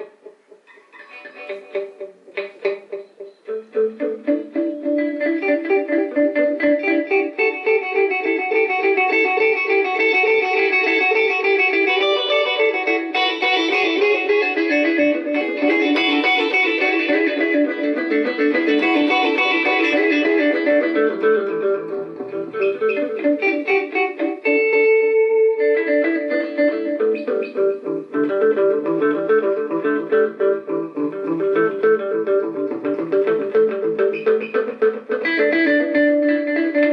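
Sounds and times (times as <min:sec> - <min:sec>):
electric guitar with delay: 0:00.0 - 0:36.9.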